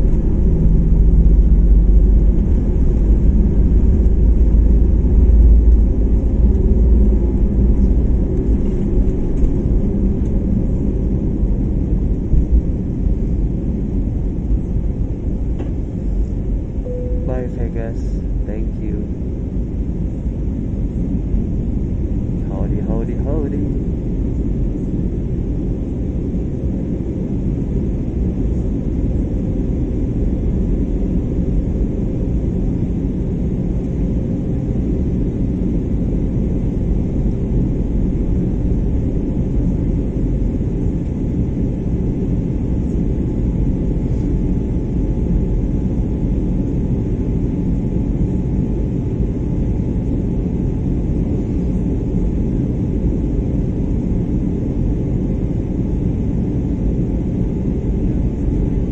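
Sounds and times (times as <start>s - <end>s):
faint steady whine: 0.0s - 58.9s
jet engine low rumble: 0.0s - 58.9s.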